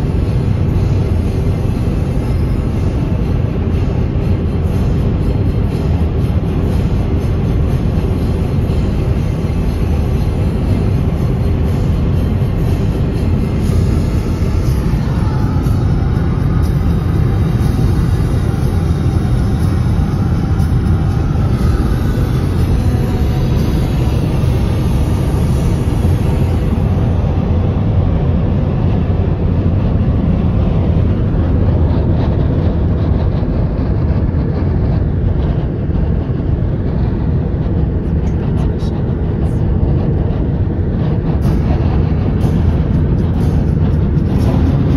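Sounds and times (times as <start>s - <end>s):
road noise rumble: 0.0s - 44.9s
wind buffeting moving car: 0.0s - 44.9s.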